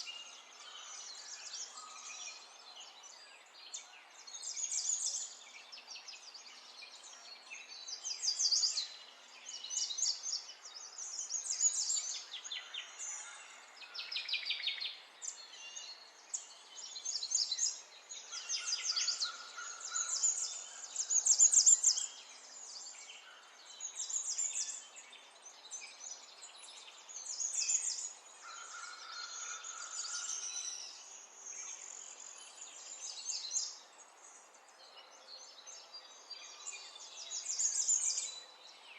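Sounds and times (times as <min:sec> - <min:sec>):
songbirds singing and trilling: 0:00.0 - 0:38.9.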